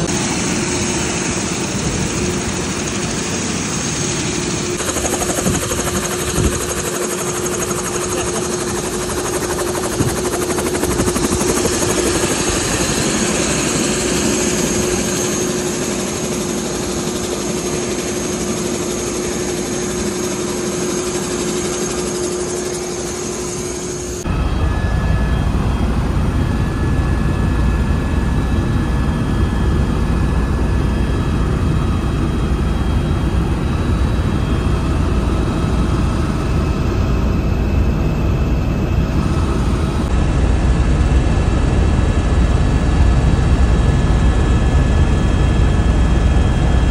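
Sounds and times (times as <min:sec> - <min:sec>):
helicopter turbine whine and rotor: 0:00.0 - 0:46.9
low rumble inside helicopter cabin: 0:00.0 - 0:46.9.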